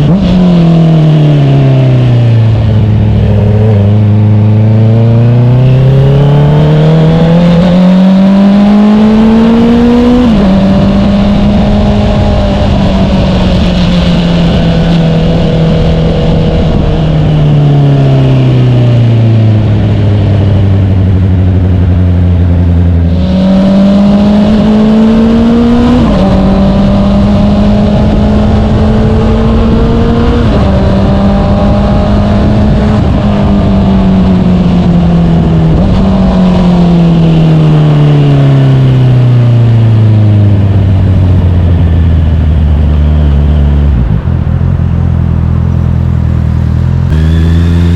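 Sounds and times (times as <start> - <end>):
motorcycle exhaust revving: 0.0 - 47.9.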